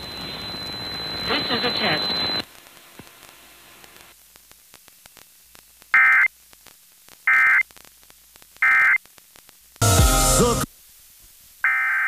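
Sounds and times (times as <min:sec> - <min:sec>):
radio dead air hiss: 0:00.0 - 0:11.8.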